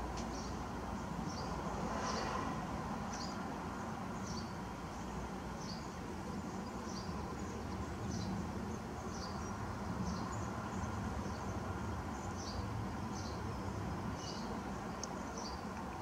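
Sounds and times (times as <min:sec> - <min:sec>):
sparrows chirping: 0:00.2 - 0:15.7.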